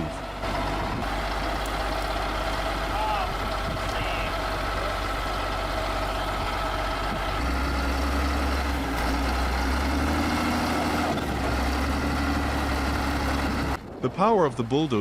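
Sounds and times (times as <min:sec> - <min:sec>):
heavy diesel engine running: 0:00.0 - 0:13.8.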